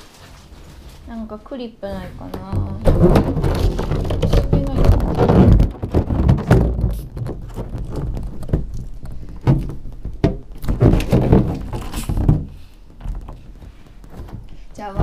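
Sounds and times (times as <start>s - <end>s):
rubbery scrapes: 0.0s - 15.0s.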